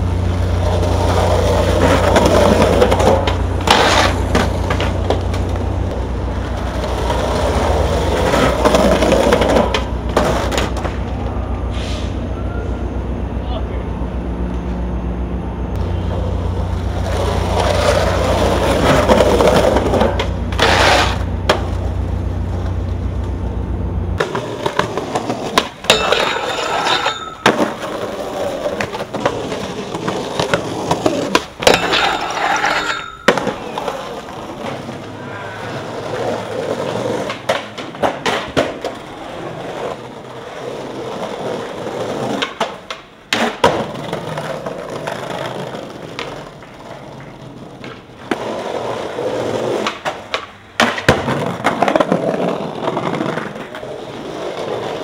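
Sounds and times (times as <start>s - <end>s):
skateboard clacks: 0.0s - 11.4s, 15.8s - 23.5s, 24.2s - 35.2s, 35.8s - 55.0s
low rumble of street traffic: 0.0s - 55.0s
skateboard wheels rolling on pavement: 0.0s - 55.0s.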